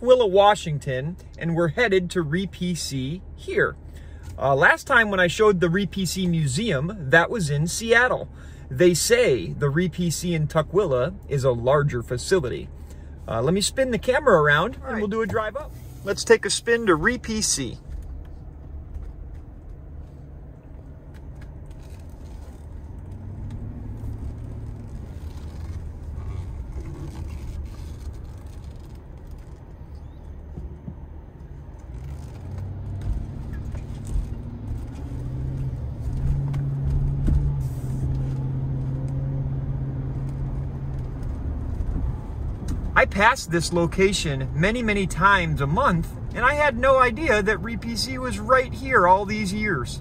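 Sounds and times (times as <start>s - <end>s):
engine and tyre rumble: 0.0s - 50.0s.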